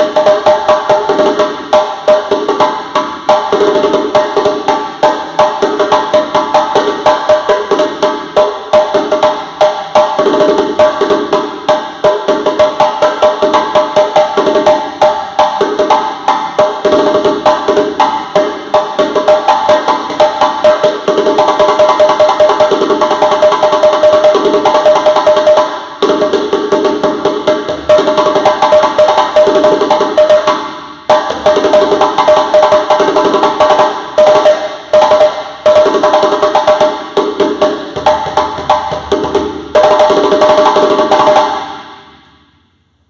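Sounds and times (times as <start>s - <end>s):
drum played in fast rhythm: 0.0s - 42.2s.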